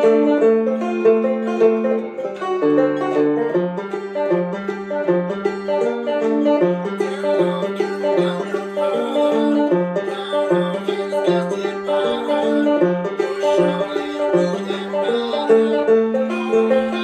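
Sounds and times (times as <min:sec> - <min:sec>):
fingerpicked banjo: 0:00.0 - 0:17.0.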